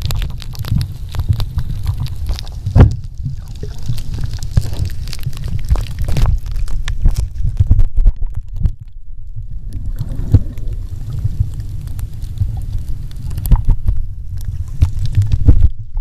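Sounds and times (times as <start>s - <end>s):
water sloshing and bubbling underwater: 0.0s - 16.0s.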